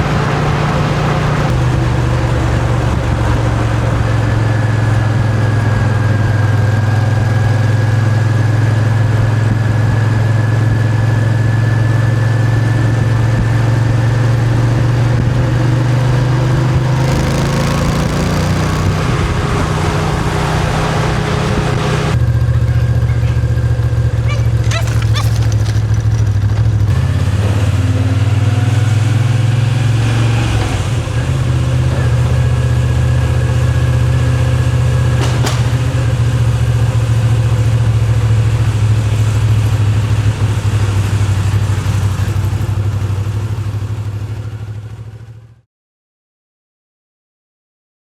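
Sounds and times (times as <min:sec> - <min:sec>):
motorcycle engine running: 0:00.0 - 0:45.6.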